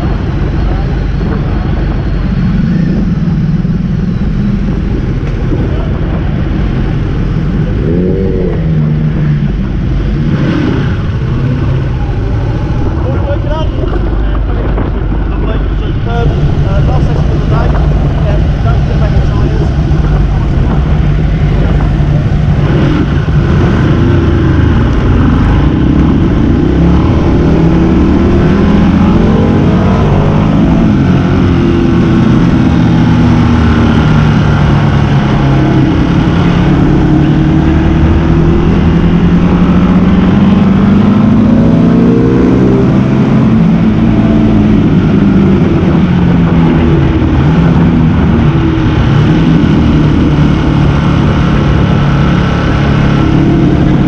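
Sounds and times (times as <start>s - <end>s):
motorcycle engine revving: 0.0s - 54.0s
wind and road noise: 0.0s - 54.0s.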